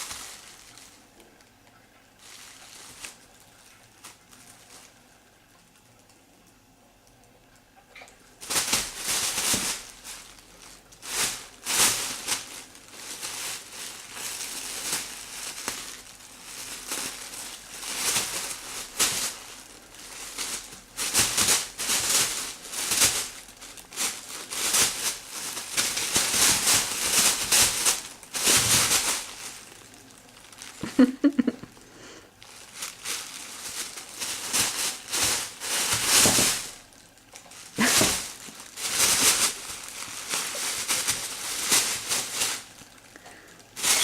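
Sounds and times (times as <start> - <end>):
bag rustling and crinkling: 0.0 - 5.6, 8.3 - 44.0.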